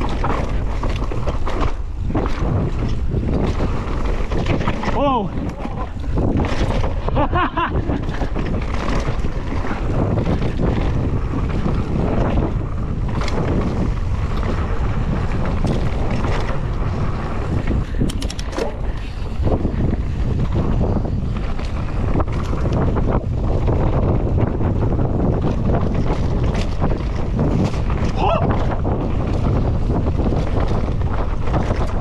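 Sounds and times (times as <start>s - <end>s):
bike knocking and rattling: 0.0s - 32.0s
tyres rolling on dirt: 0.0s - 32.0s
wind rushing over microphone: 0.0s - 32.0s.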